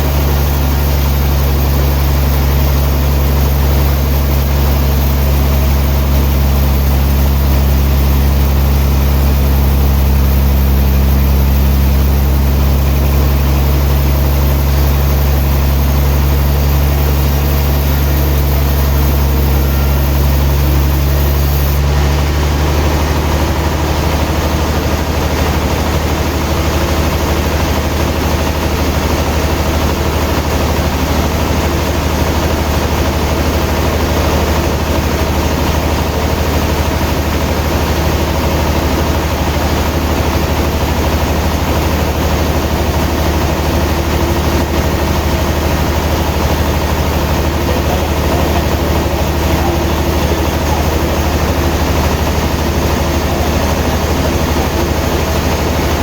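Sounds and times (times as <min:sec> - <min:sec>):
machinery engine low hum: 0:00.0 - 0:56.0.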